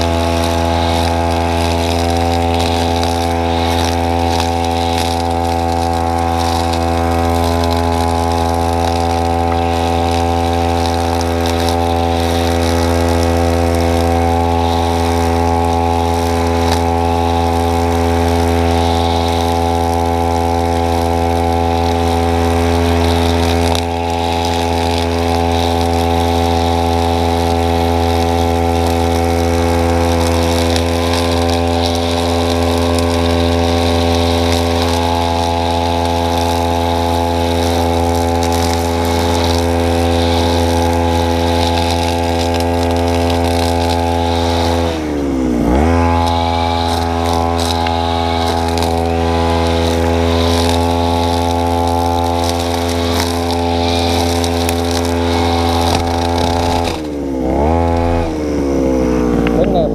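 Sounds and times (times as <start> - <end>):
brush cutter cutting grass: 0.0 - 59.9.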